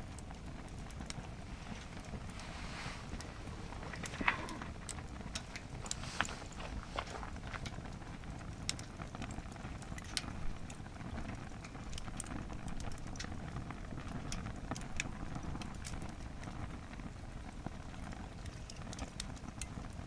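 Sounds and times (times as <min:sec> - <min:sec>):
fire rumbling: 0:00.0 - 0:20.0
wood crackling and popping: 0:00.0 - 0:20.0.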